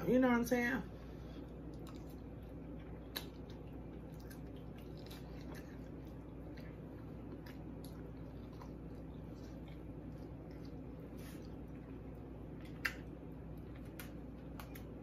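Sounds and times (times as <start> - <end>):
wet chewing: 1.4 - 15.0.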